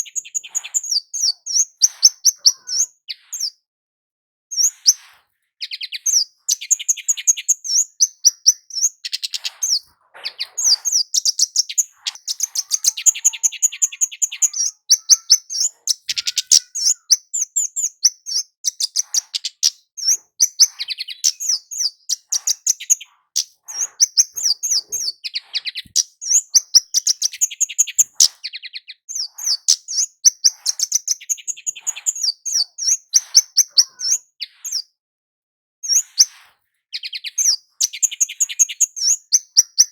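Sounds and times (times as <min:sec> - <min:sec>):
small bird singing rapid chips: 0:00.0 - 0:03.6, 0:04.5 - 0:34.9, 0:35.8 - 0:39.9.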